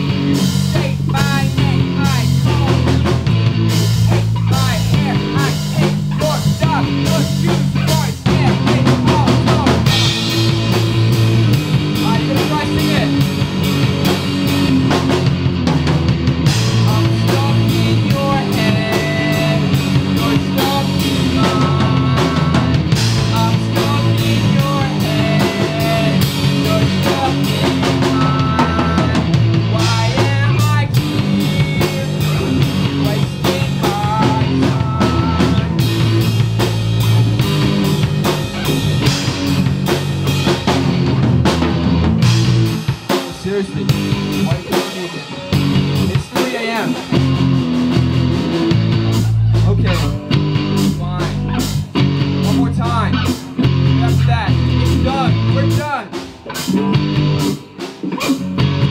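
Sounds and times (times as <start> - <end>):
bass guitar: 0.0 - 58.9
drum kit: 0.0 - 58.9
electric guitars: 0.0 - 58.9.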